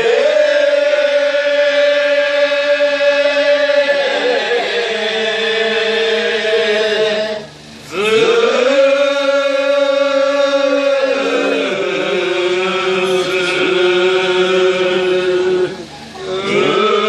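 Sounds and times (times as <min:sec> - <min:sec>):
person singing work chant: 0:00.0 - 0:17.0.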